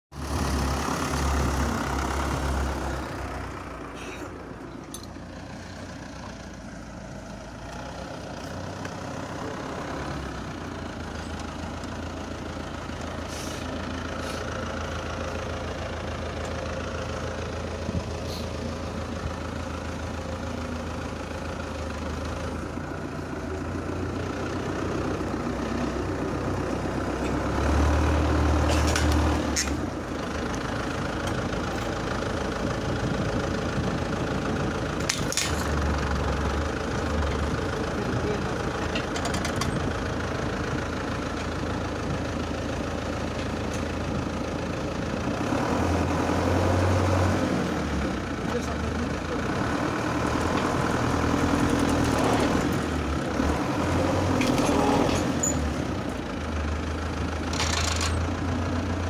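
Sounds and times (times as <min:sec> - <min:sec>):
diesel tractor engine idling: 0:00.1 - 0:59.0.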